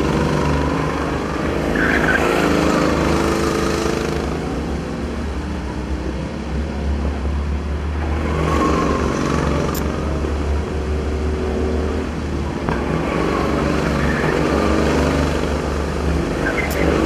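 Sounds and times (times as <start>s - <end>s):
go-kart engines accelerating: 0.0s - 17.0s.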